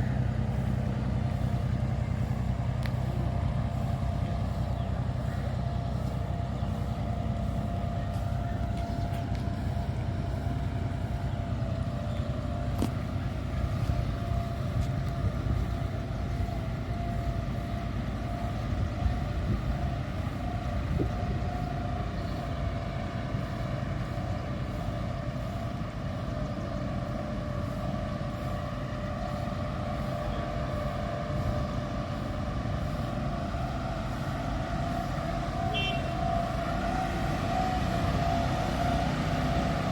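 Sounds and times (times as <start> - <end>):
engine droning with faint whine: 0.0 - 39.9.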